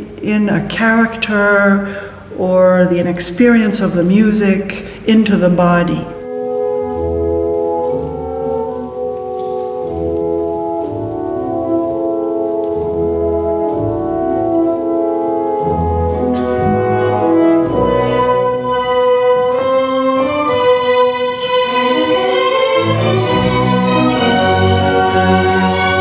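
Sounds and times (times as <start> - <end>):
orchestral brass chords: 3.9 - 26.0.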